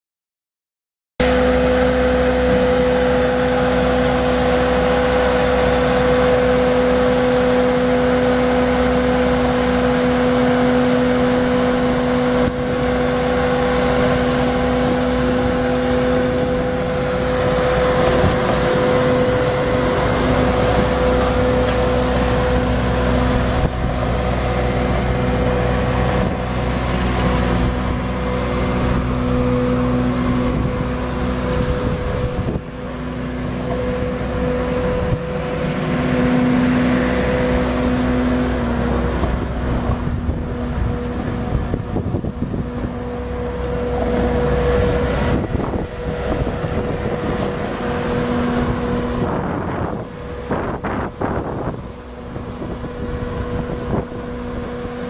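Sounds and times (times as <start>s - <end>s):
diesel engine running: 1.2s - 55.0s
droning tone: 1.2s - 55.0s.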